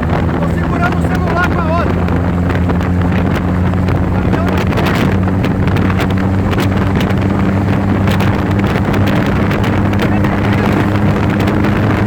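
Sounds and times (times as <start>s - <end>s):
engine running steadily: 0.0s - 12.0s
wind buffeting microphone: 0.0s - 12.0s.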